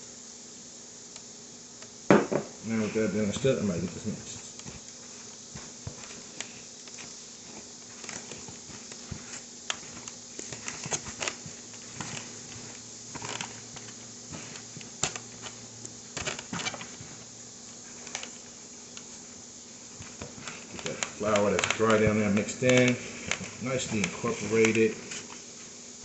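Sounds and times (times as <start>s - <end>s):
faint steady hum: 0.0s - 26.0s
hands squishing dough: 2.7s - 25.4s.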